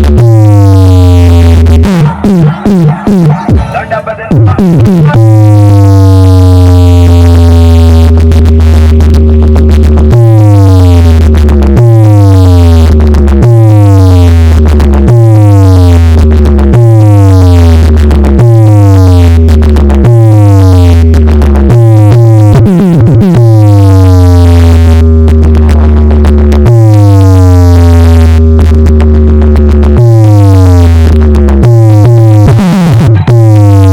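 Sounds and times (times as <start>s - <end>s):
heavy synth bass notes: 0.0s - 33.9s.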